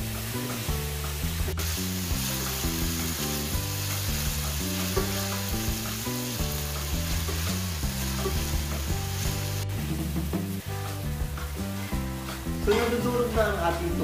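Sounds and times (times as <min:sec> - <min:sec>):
background music with bass line: 0:00.0 - 0:14.0
vegetables sizzling in a pan: 0:00.0 - 0:14.0.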